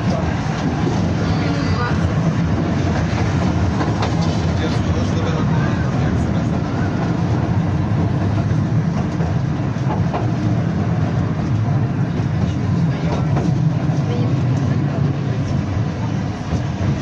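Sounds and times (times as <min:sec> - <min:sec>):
tram running rumble: 0:00.0 - 0:17.0.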